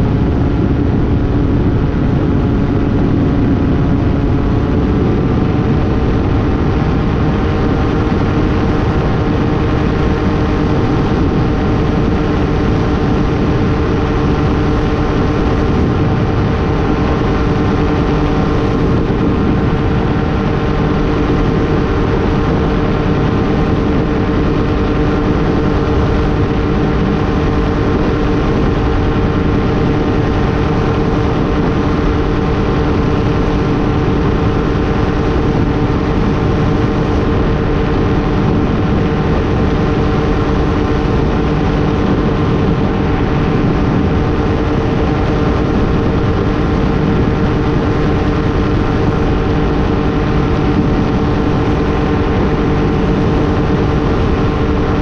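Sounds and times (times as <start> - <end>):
aircraft engine and propeller drone: 0.0 - 55.0
rush of airflow: 0.0 - 55.0.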